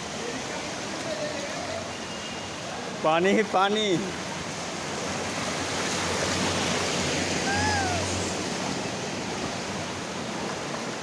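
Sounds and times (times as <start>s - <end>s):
rain and running water: 0.0s - 11.0s.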